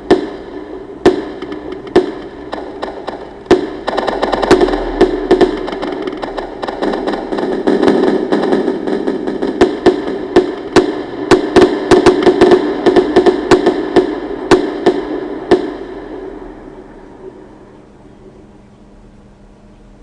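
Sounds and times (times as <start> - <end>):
fireworks crackling: 0.0 - 17.6
fireworks banging: 0.0 - 17.8.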